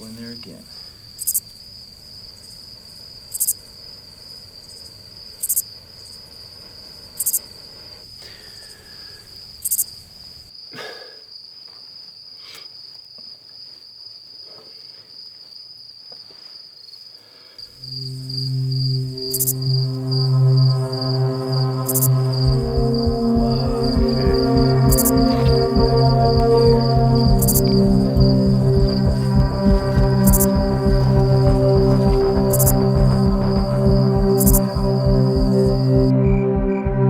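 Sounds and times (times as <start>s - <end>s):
crickets trilling: 0.0s - 36.8s
high insect call: 0.0s - 37.0s.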